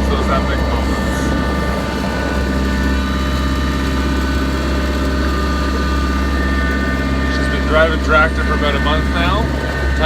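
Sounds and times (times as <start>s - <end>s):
thin steady whine: 0.0s - 10.0s
tractor engine drone: 0.0s - 10.0s.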